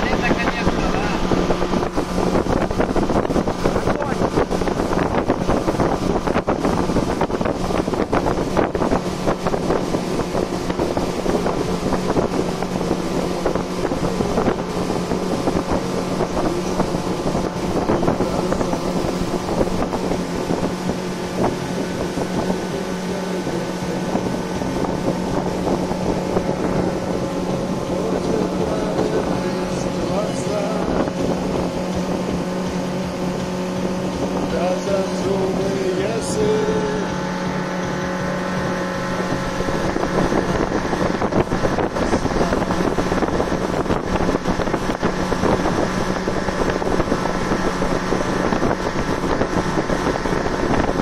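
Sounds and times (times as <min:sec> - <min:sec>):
boat motor humming: 0:00.0 - 0:51.0.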